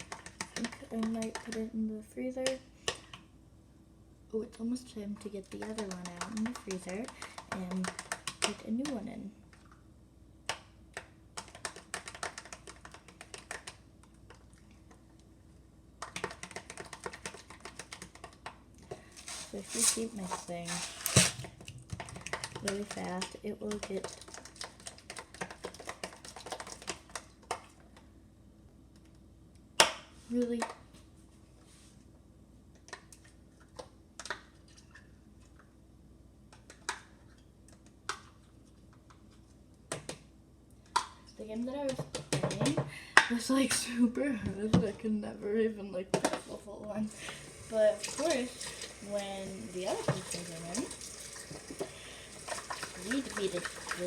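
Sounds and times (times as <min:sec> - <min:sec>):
quiet room hum: 0:00.0 - 0:54.0.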